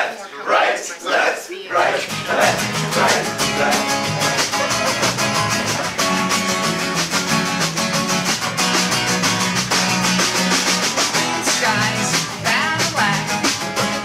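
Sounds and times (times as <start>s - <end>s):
acoustic guitars strumming: 1.8s - 14.0s
upright bass notes: 1.8s - 14.0s.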